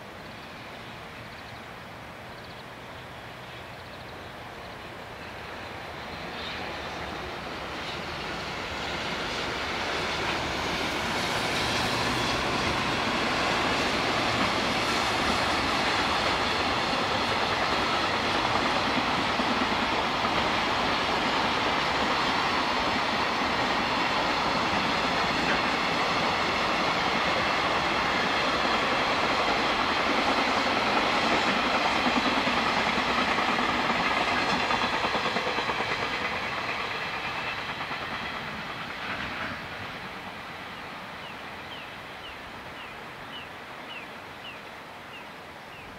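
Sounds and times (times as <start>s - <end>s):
train wheels rolling on rails: 0.0s - 45.9s.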